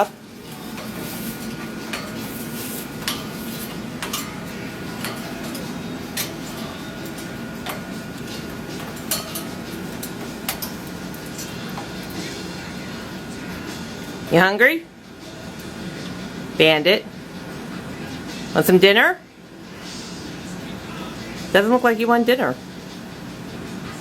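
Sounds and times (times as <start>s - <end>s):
room noise: 0.0s - 24.0s.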